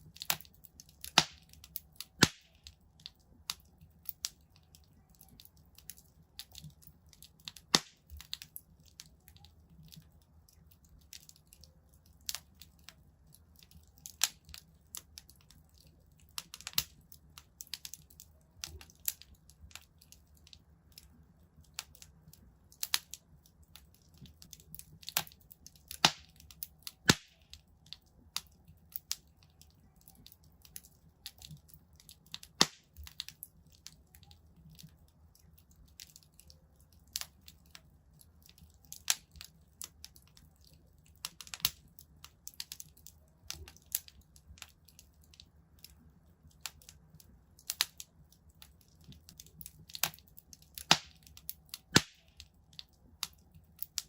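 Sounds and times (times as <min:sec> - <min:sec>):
faint low rumble of flames: 0:00.0 - 0:54.0
wood fire crackling: 0:00.0 - 0:54.0.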